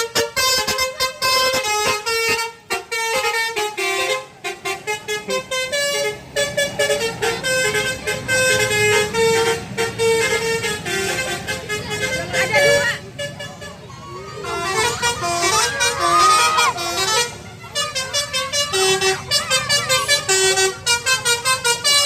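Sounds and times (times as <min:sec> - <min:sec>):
bus engine rumbling: 0:00.0 - 0:22.0
multi-tone bus horn melody: 0:00.0 - 0:22.0.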